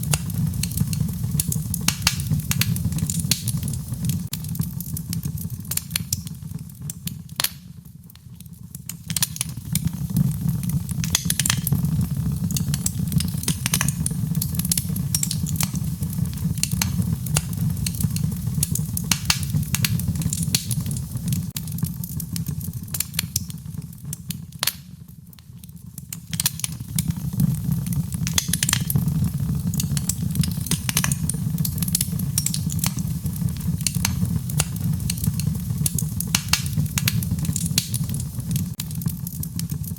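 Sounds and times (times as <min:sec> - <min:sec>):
gentle rain: 0:00.0 - 0:39.9
wood fire crackling: 0:00.0 - 0:39.9.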